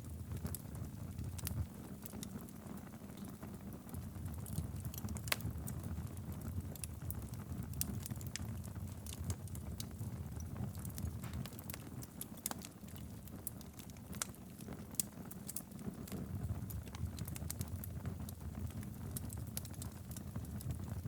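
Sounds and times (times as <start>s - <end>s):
fire crackling and popping: 0.0s - 21.0s
fire flames rumbling: 0.0s - 21.0s.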